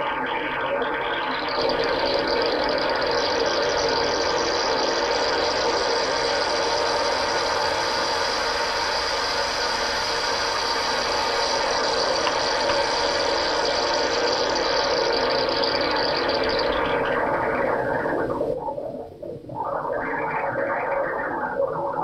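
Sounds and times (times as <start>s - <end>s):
synthetic underwater bubbling: 0.0s - 22.0s.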